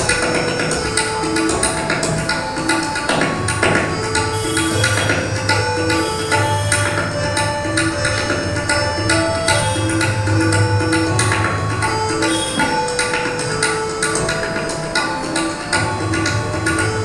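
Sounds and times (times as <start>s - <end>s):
repeating melody of held notes: 0.0s - 17.0s
tabla drumming: 0.0s - 17.0s.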